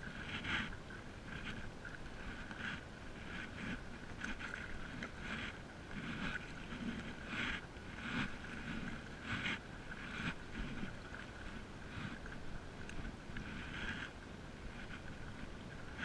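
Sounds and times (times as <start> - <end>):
paddle splashing through water: 0.0 - 16.0.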